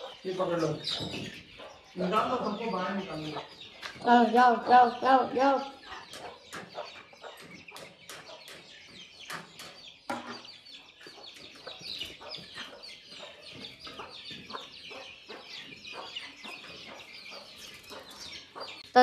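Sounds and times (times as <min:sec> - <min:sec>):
chickens clucking: 0:00.0 - 0:19.0
chicks peeping: 0:00.0 - 0:19.0.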